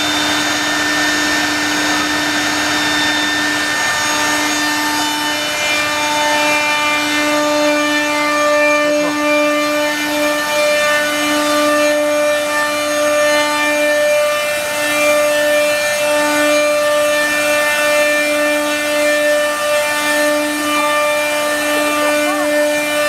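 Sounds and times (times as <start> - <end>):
cutters cutting board: 0.0 - 23.0
high whine of router spindles: 0.0 - 23.0.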